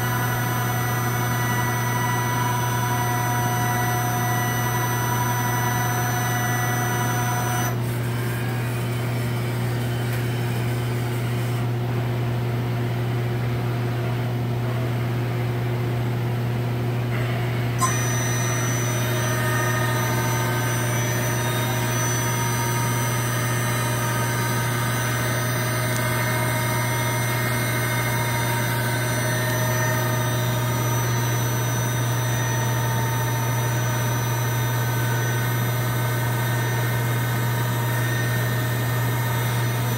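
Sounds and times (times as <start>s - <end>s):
machine whining tones: 0.0s - 11.7s, 17.1s - 39.9s
machining center hum: 0.0s - 39.9s.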